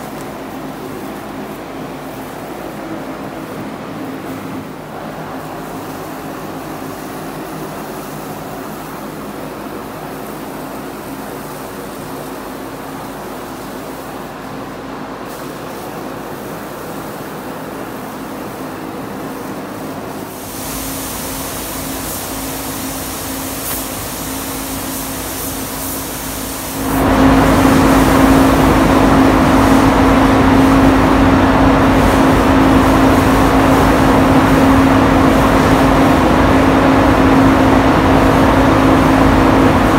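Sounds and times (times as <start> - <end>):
ventilation hum and air rush: 0.0 - 39.9.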